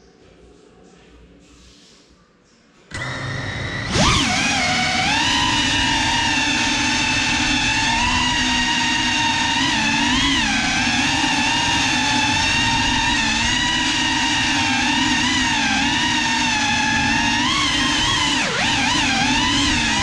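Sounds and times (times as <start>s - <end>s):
drone propellers buzzing whine: 2.9s - 20.0s.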